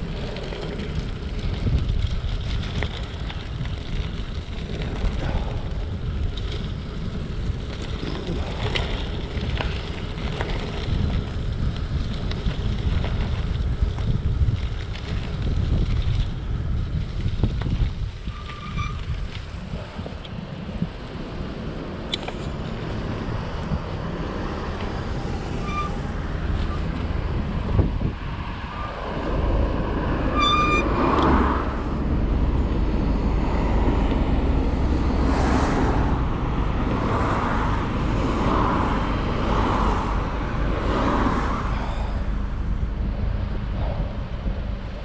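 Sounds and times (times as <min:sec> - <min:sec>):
road traffic passing: 0:00.0 - 0:45.0
wind rumbling on microphone: 0:00.0 - 0:45.0.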